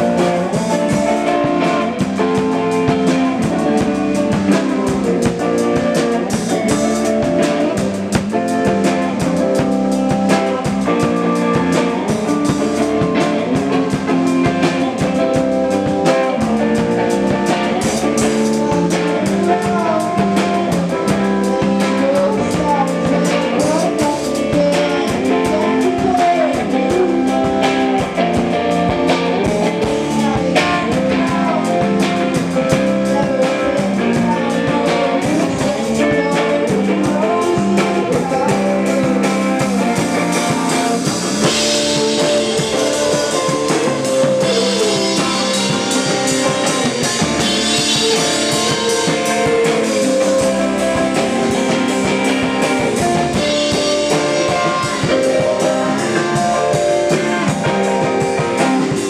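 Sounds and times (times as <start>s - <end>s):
drum kit with cymbals: 0.0s - 59.0s
electric guitar: 0.0s - 59.0s.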